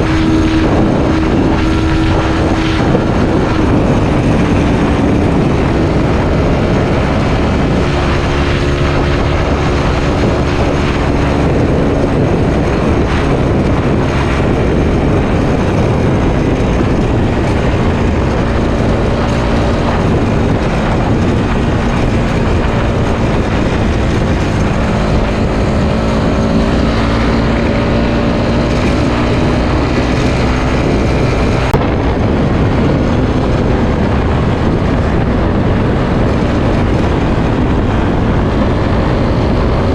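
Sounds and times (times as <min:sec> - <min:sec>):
heavy wind rush: 0:00.0 - 0:39.9
motorcycle engine running: 0:00.0 - 0:39.9.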